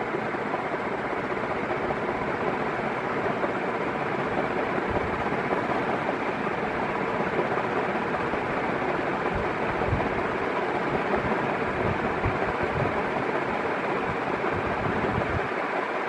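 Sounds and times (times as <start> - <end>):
ceiling fan air rush with hum: 0.0 - 16.0.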